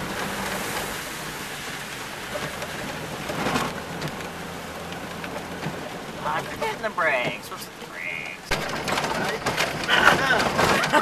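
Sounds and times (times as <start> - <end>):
tyre and water noise: 0.0 - 11.0
vehicle engine hum: 0.0 - 11.0.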